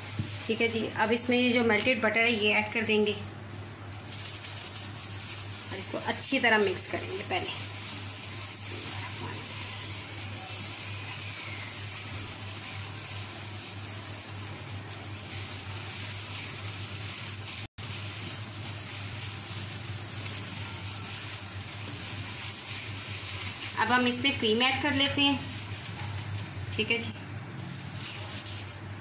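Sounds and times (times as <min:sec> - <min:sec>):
hand mixing crumbs rustling: 0:00.0 - 0:29.0.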